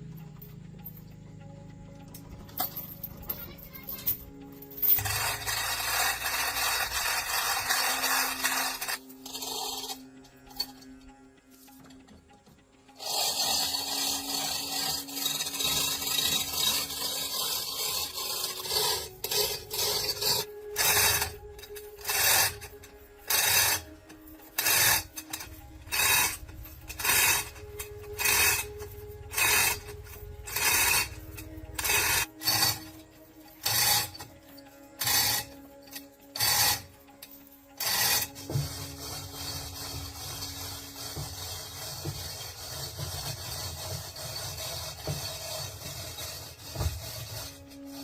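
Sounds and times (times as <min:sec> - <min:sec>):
soft background music: 0:00.0 - 0:48.0
hand tool rasping wood: 0:05.0 - 0:10.9, 0:12.9 - 0:48.0.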